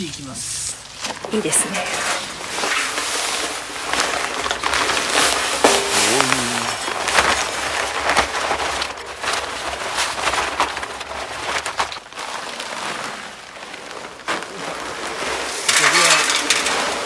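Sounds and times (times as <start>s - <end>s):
sand pouring into mixer drum: 1.6s - 17.0s.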